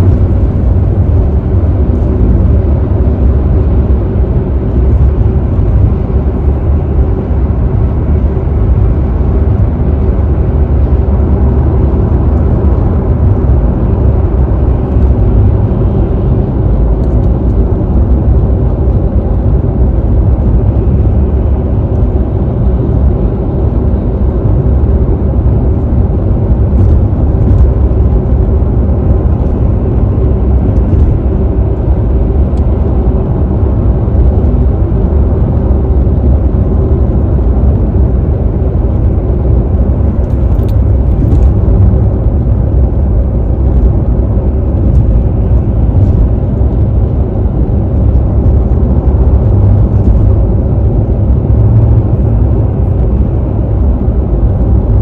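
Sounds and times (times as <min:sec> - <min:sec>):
car engine droning: 0:00.0 - 0:55.0
tyre and road noise: 0:00.0 - 0:55.0.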